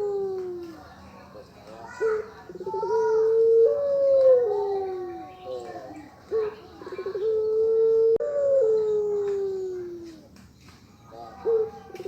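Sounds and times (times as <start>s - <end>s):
dove cooing: 0.0s - 0.8s, 1.9s - 10.3s, 11.1s - 12.0s.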